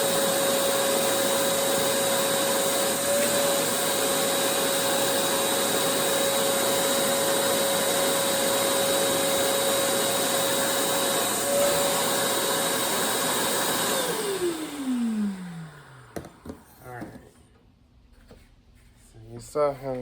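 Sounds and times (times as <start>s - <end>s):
vacuum cleaner motor whining: 0.0s - 17.3s.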